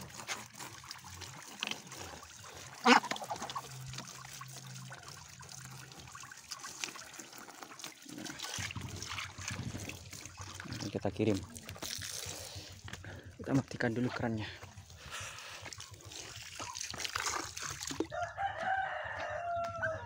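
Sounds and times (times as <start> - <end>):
hose spraying water: 0.0 - 13.6, 14.8 - 18.2
water splashing: 0.0 - 13.7, 14.7 - 18.3.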